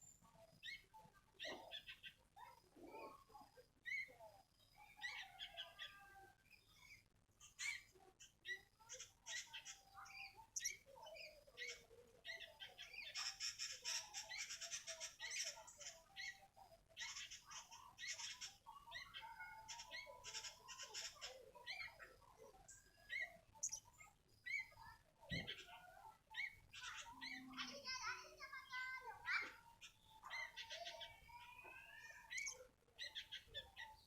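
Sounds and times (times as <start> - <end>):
bulbul chirping and calling: 0.6 - 2.6, 4.8 - 27.8, 29.3 - 34.0.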